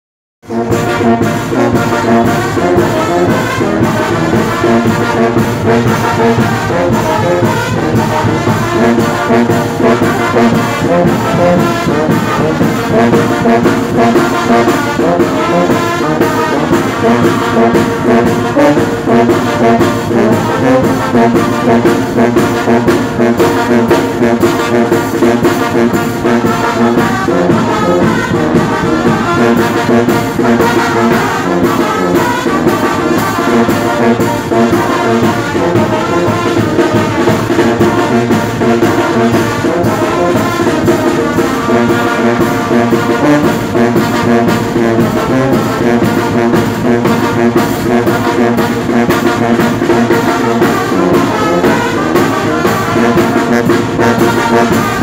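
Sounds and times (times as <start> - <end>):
brass band playing: 0.4 - 55.0.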